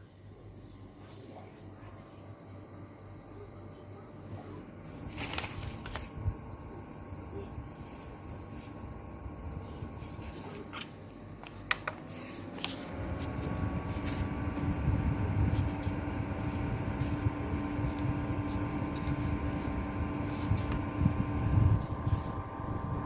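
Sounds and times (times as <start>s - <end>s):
fan motor humming: 0.0s - 23.0s.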